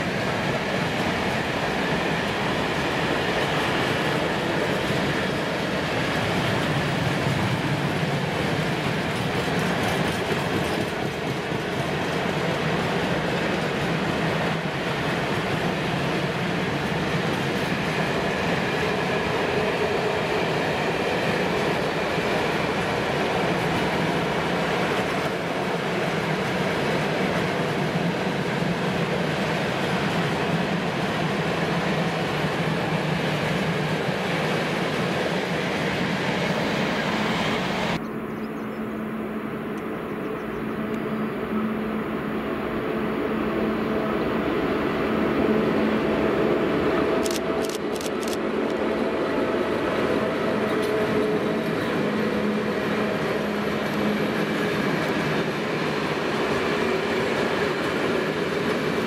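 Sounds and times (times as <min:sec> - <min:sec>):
electric locomotive humming: 0:00.0 - 0:59.0
freight wagons rumbling on rails: 0:00.0 - 0:59.0.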